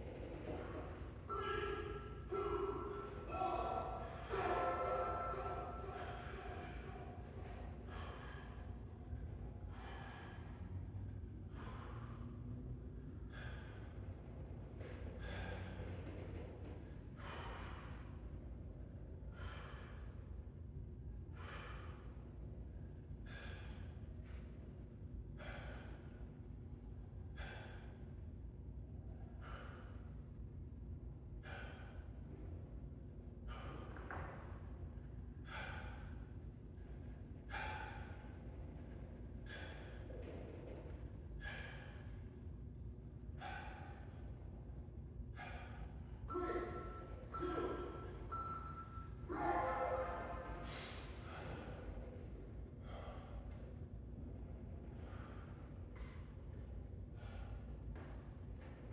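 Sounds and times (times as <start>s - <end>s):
steady low hum: 0.0s - 58.9s
man breathing hard: 1.3s - 58.9s.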